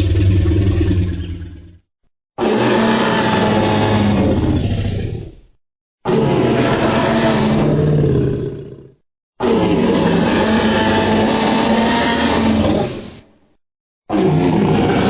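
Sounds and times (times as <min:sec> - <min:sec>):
dinosaur roar: 0:00.0 - 0:01.8, 0:02.4 - 0:13.3, 0:14.1 - 0:15.0.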